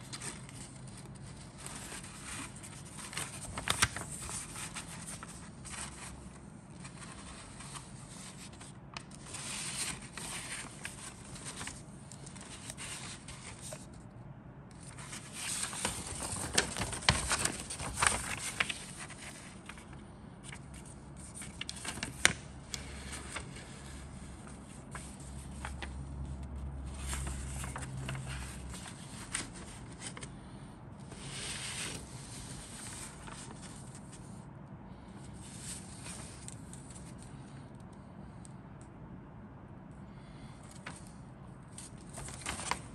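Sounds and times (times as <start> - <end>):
paper rustling and crinkling: 0.0 - 14.0, 14.7 - 34.4, 35.3 - 37.3, 40.3 - 42.9.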